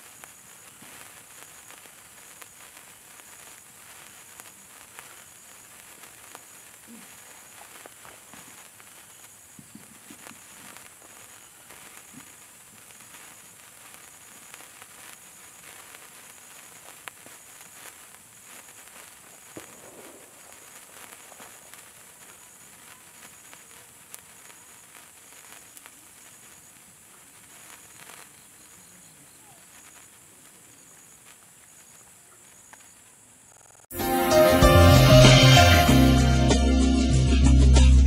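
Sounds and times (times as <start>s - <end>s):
sparkler fizzing and crackling: 0.0s - 37.2s
sparkler popping: 0.0s - 38.0s.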